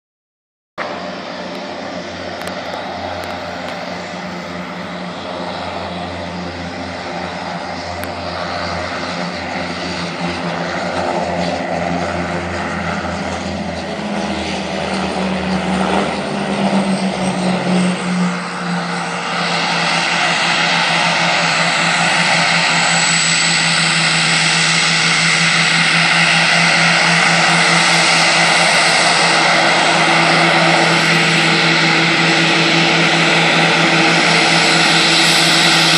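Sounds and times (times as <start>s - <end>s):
high turbine whine: 0.8s - 35.9s
propeller drone: 0.8s - 35.9s.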